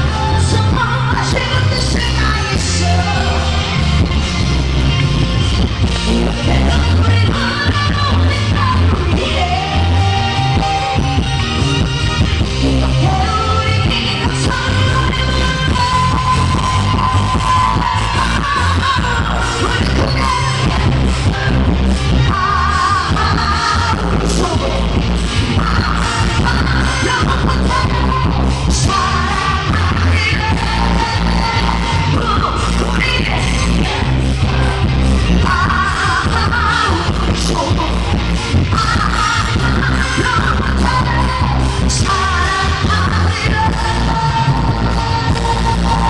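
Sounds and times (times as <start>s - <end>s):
person singing with vibrato: 0.0s - 46.0s
pop backing track with heavy bass: 0.0s - 46.0s.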